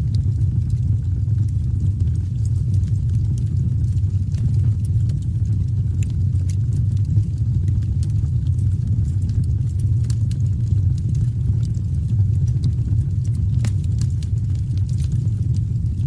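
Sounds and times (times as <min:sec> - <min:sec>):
campfire flames rumbling: 0:00.0 - 0:16.0
logs crackling and popping: 0:00.0 - 0:16.0.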